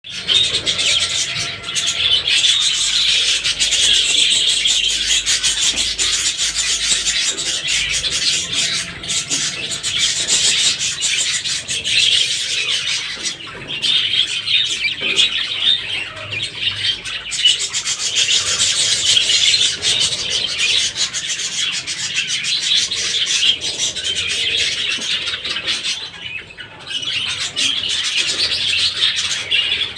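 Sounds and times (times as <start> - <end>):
birds chattering and chirping: 0.0 - 29.9.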